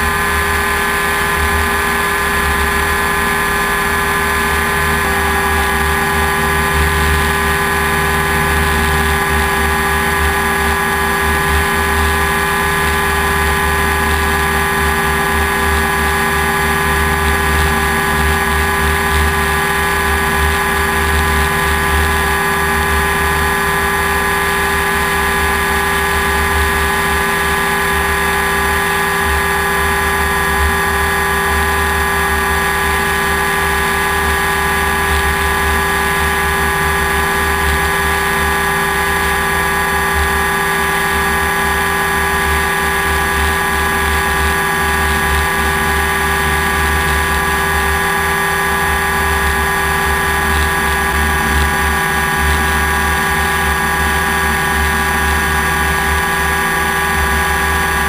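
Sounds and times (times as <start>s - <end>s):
drone propellers whining: 0.0s - 58.0s.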